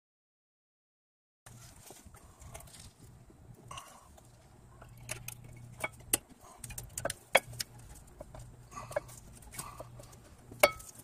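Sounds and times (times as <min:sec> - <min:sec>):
faint low hum: 0:01.5 - 0:11.0.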